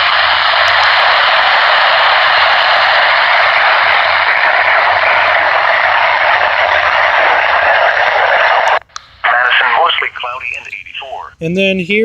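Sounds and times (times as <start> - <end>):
radio static hiss: 0.0 - 11.4.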